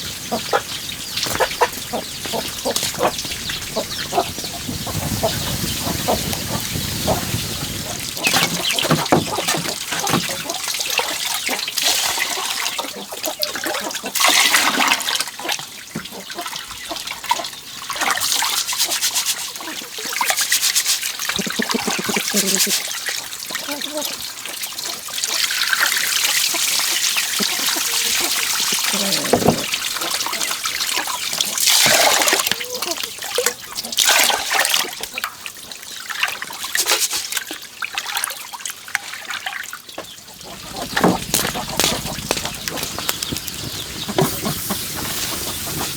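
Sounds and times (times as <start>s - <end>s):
water splashing and trickling: 0.0s - 45.9s.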